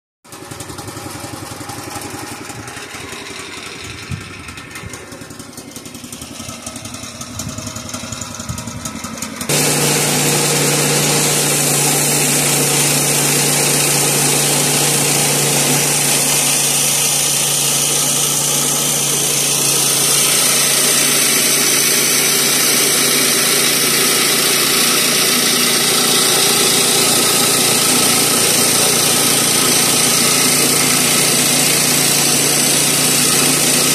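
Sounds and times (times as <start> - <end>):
sawmill engine running: 0.3 - 33.9
band saw cutting wood: 1.5 - 33.9.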